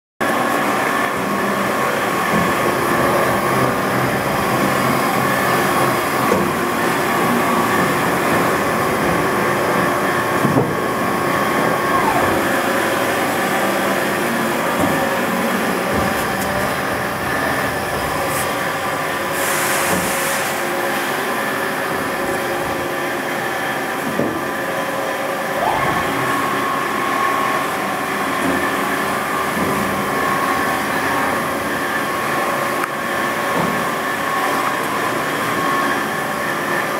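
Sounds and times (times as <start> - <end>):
machinery humming: 0.2 - 36.9
machinery whine: 0.2 - 36.9.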